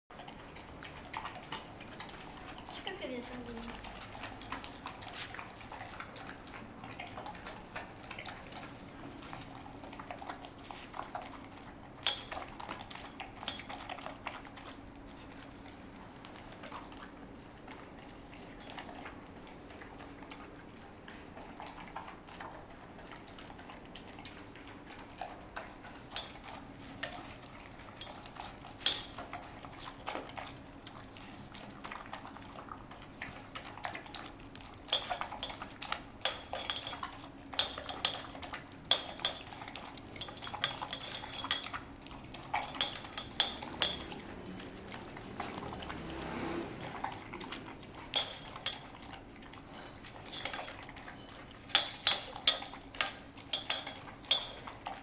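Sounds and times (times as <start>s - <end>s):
clicks and metallic clinks: 0.1s - 55.0s
puppy moving about: 0.2s - 55.0s.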